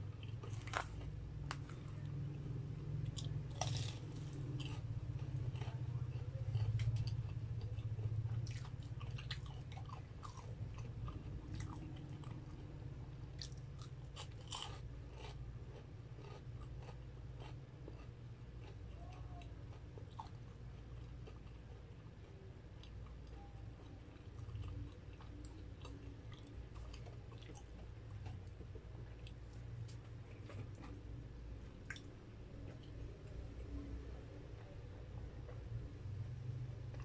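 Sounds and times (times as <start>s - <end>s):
chewing crispy food: 0.0s - 37.0s.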